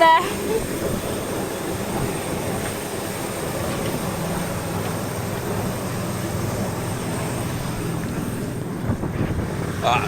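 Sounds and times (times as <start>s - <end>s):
airliner cabin noise: 0.0s - 10.0s.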